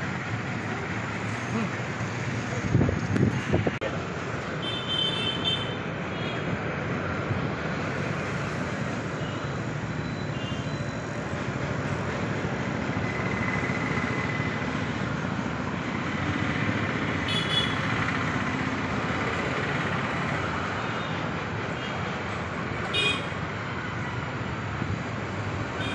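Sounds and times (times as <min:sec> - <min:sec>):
road traffic noise: 0:00.0 - 0:25.9.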